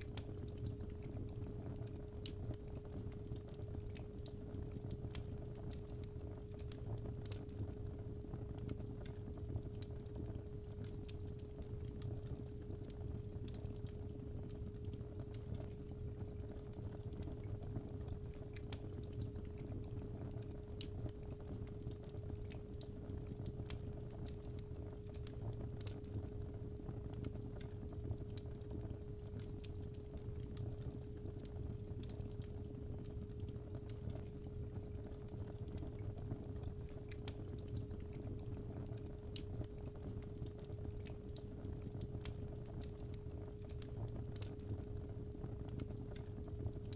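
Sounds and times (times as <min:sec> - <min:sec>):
fireplace fire crackling: 0:00.0 - 0:46.9.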